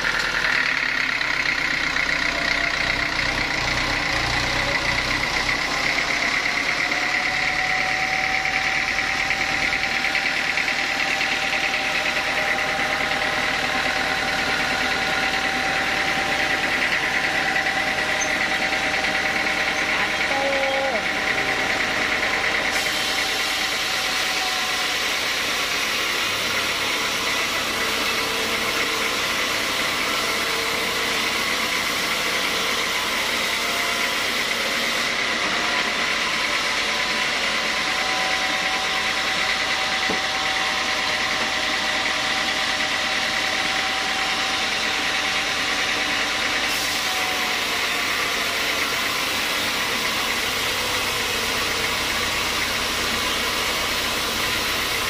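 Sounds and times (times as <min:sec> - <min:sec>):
bandsaw mill sawing log: 0:00.0 - 0:55.0.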